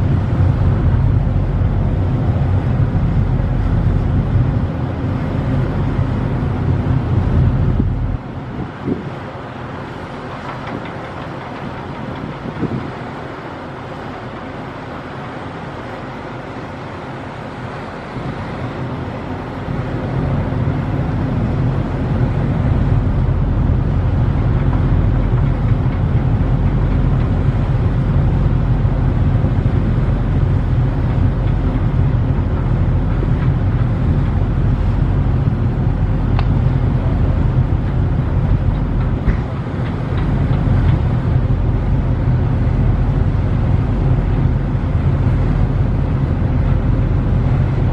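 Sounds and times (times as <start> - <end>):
ferry engines rumbling: 0.0 - 47.9.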